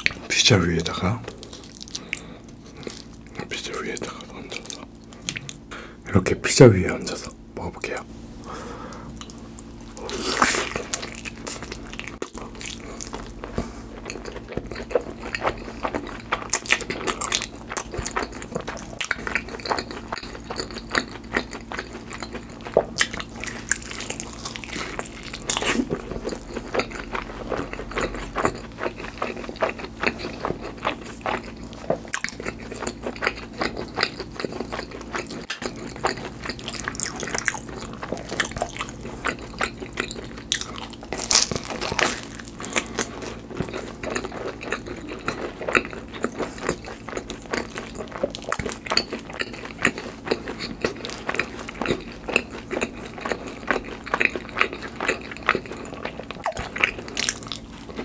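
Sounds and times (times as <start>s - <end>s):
pizza crust crunching: 8.5s - 58.0s.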